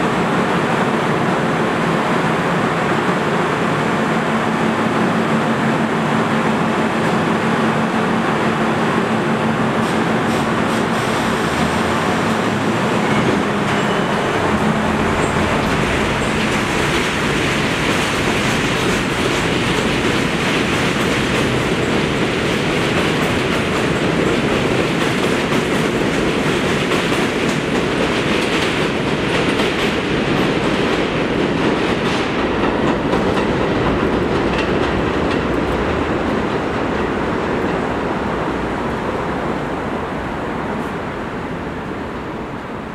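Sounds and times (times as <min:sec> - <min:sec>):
train wheels clattering on track: 0:00.0 - 0:39.6
subway train hum: 0:00.0 - 0:42.9.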